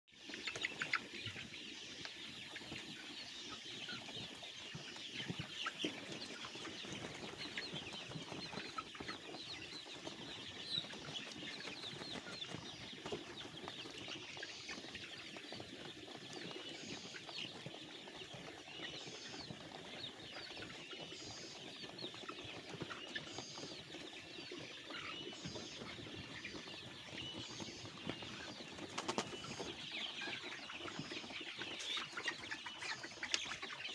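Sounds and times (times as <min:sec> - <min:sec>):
flock of cockerels calling: 0:00.1 - 0:33.9.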